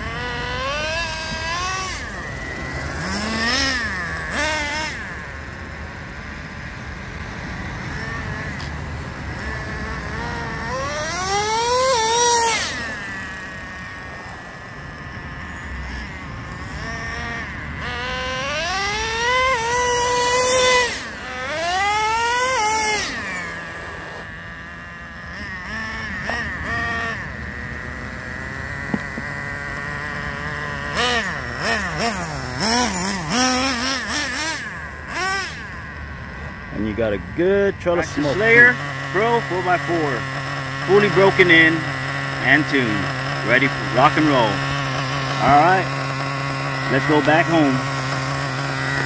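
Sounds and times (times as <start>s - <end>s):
model engine revving: 0.0s - 49.0s.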